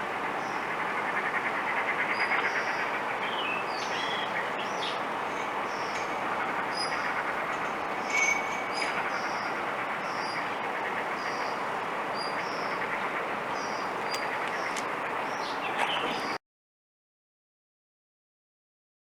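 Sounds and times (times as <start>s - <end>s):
loud background noise: 0.0s - 16.4s.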